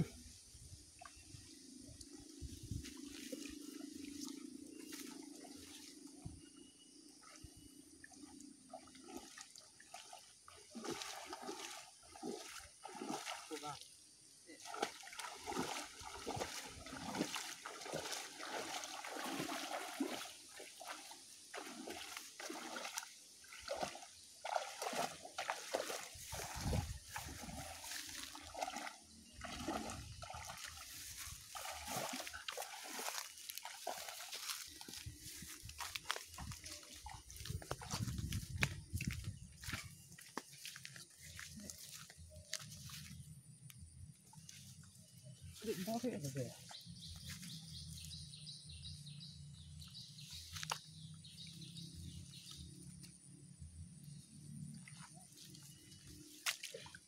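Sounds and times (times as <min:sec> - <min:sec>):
person wading through water: 0:00.0 - 0:57.0
small birds chirping: 0:00.1 - 0:53.3.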